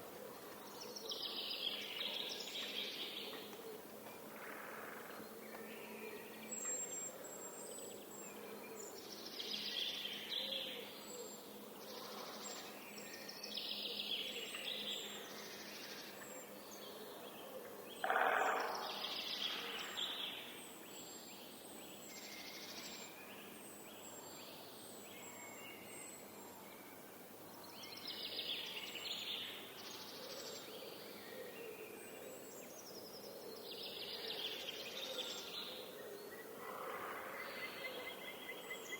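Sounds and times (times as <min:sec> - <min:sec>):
forest birds singing: 0:00.0 - 0:38.9.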